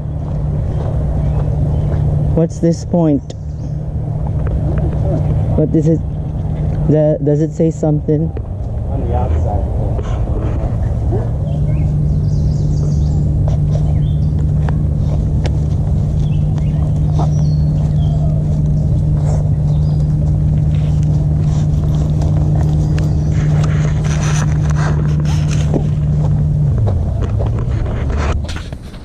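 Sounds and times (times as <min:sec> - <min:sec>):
footsteps on a trail: 0:00.0 - 0:07.0, 0:07.8 - 0:29.0
motorboat engine drone: 0:00.0 - 0:29.0.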